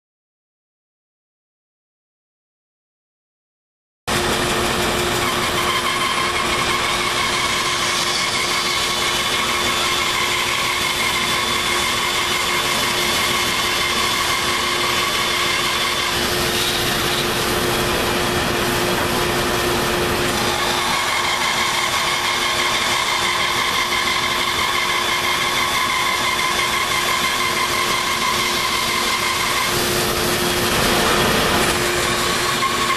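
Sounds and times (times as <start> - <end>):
bandsaw humming and whining: 4.1 - 32.9.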